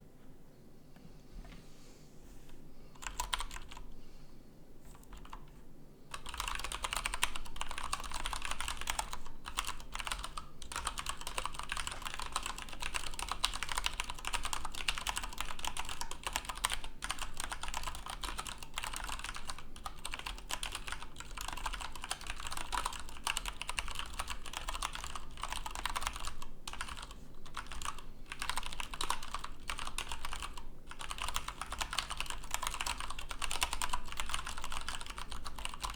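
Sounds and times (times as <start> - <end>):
fast typing on keyboard: 3.0 - 3.8, 5.0 - 5.4, 6.1 - 35.9.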